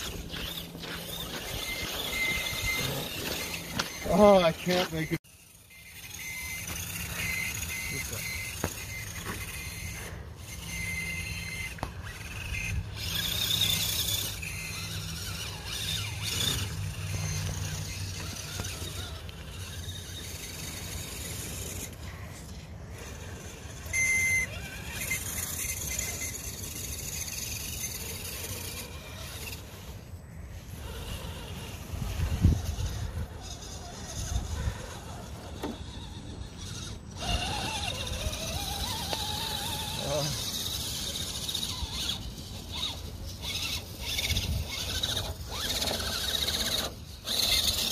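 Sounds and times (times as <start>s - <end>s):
toy car electric motor whining: 0.0s - 47.9s.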